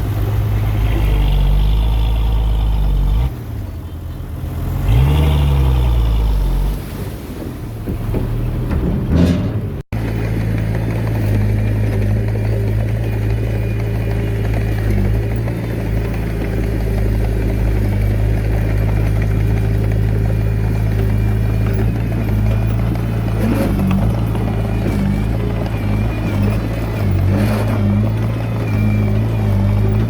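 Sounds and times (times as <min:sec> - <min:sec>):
diesel bulldozer engine running: 0:00.0 - 0:30.0.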